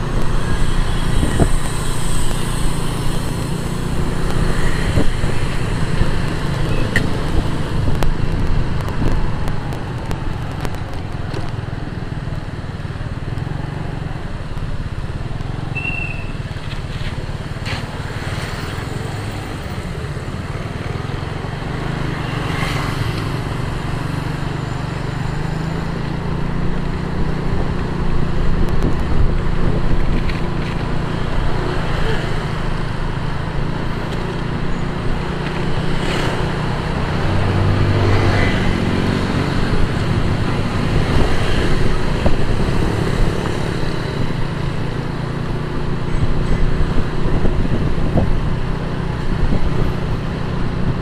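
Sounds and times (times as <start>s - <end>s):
motorcycle engine and road rumble: 0.0s - 51.0s.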